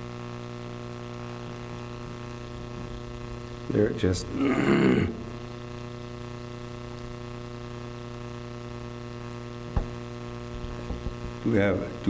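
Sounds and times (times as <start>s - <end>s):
buzzy electrical hum: 0.0s - 12.0s.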